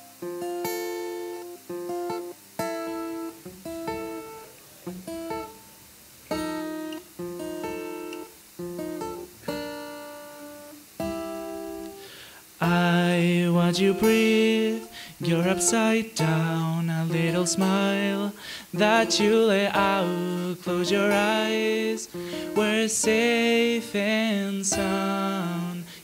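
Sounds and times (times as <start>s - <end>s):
acoustic guitar strummed chords: 0.0s - 26.0s.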